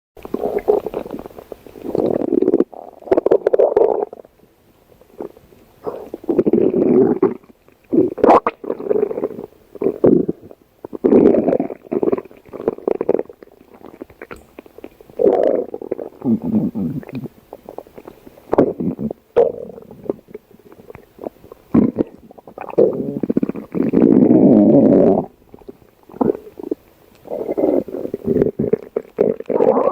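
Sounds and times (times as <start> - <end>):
stomach growling: 0.2 - 4.4, 5.0 - 29.9.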